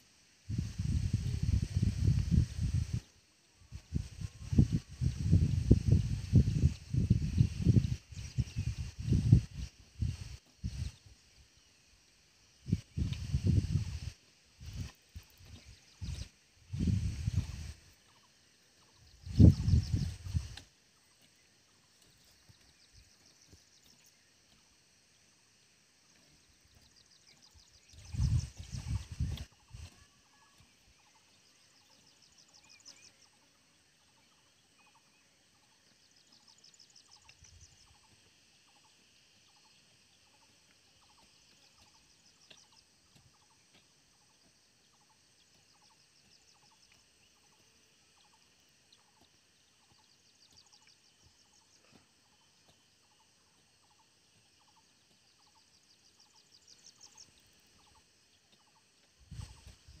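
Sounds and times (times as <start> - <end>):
soft regular chirp: 2.3 - 60.0.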